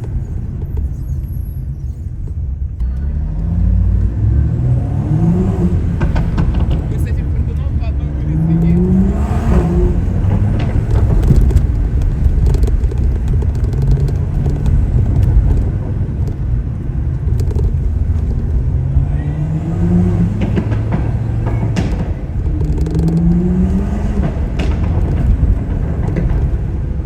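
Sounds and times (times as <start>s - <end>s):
car engine revving while driving: 2.3s - 27.0s.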